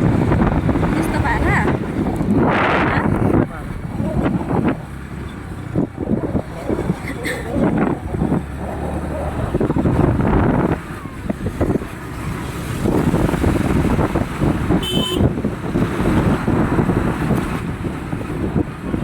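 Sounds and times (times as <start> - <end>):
road traffic noise: 0.0 - 19.0
wind buffeting microphone: 0.0 - 19.0.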